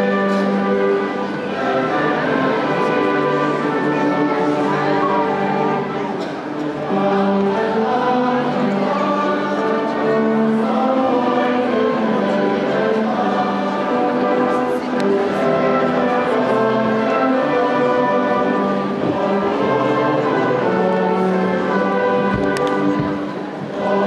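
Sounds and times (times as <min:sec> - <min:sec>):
church choir singing a hymn: 0:00.0 - 0:24.0.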